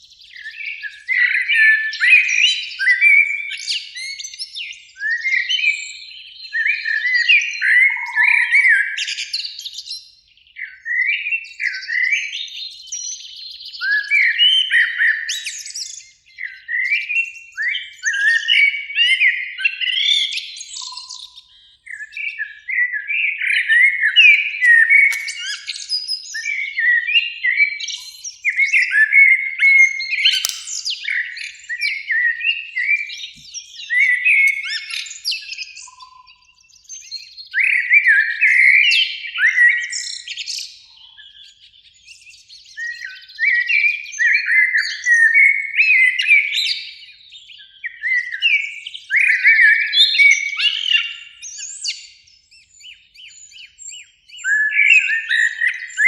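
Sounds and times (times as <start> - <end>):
blackbird singing: 0.0 - 56.0.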